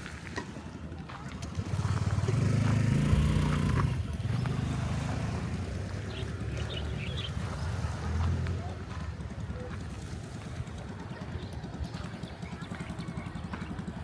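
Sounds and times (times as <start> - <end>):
motor engine running: 0.0 - 14.0.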